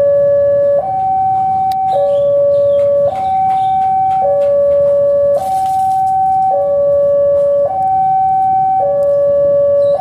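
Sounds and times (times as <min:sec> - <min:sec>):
level crossing alarm two-tone: 0:00.0 - 0:10.0.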